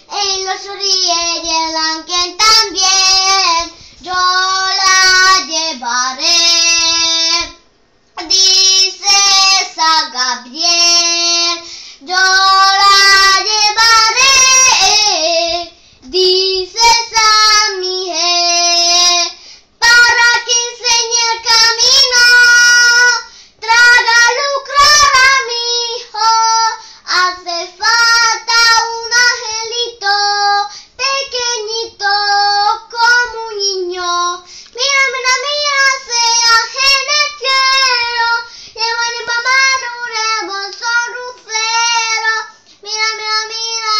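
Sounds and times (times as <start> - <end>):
girl singing unaccompanied: 0.0 - 43.9.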